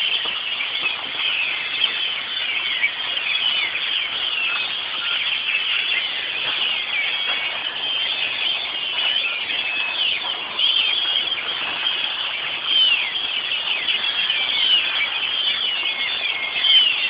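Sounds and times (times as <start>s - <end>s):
flock of birds screeching: 0.0s - 17.0s.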